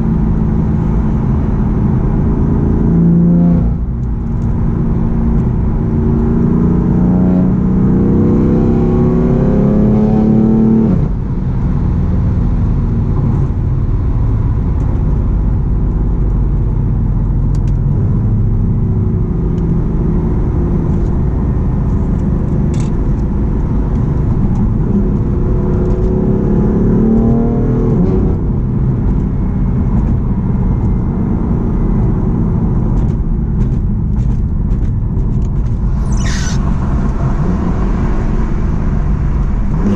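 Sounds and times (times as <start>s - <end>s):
car engine revving: 0.0s - 11.5s, 17.6s - 39.9s.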